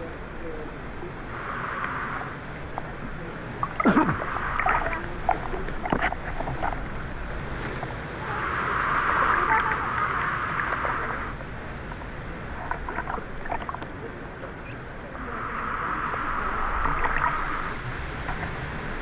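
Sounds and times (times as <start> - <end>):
water splashes: 0.7 - 19.0.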